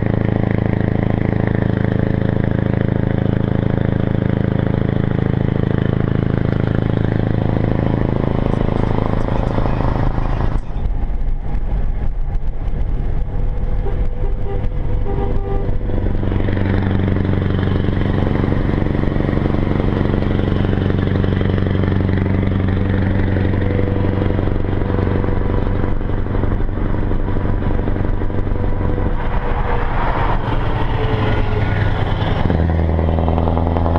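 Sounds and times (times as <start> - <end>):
truck diesel engine droning: 0.0 - 33.9.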